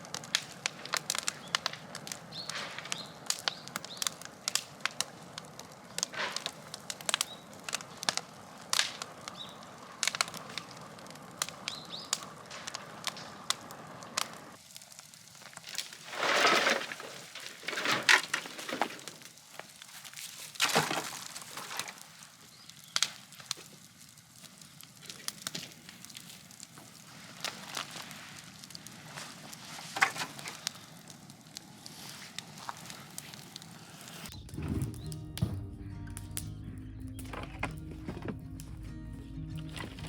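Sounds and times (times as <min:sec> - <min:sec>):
loud crunching noises: 0:00.0 - 0:35.1
wood fire crackling and popping: 0:00.0 - 0:38.8.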